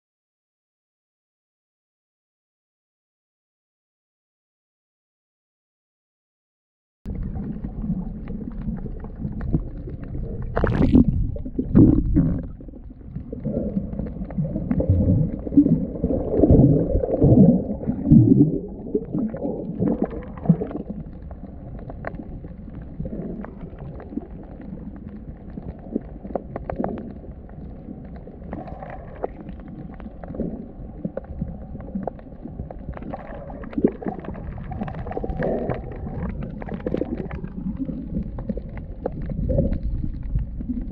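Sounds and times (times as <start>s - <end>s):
underwater rumble and gurgling: 7.1s - 40.9s.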